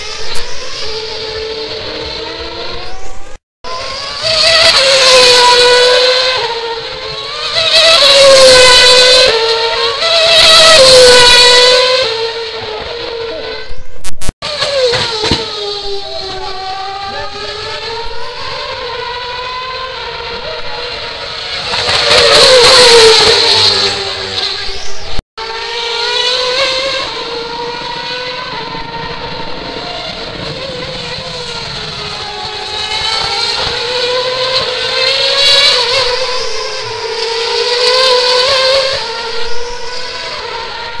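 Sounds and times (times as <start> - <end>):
race car passing at high speed: 0.0 - 13.7, 14.4 - 41.0
distant race engines: 0.0 - 41.0.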